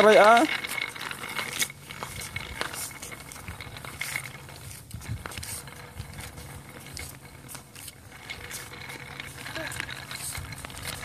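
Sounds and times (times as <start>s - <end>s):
wooden toy train rattling on concrete: 0.0s - 11.0s.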